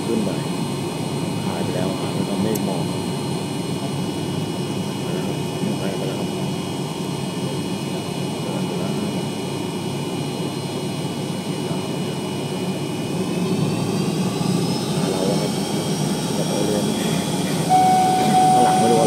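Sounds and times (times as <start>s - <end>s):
jet engines rumbling: 0.0s - 19.0s
rising jet engine whine: 0.0s - 19.0s.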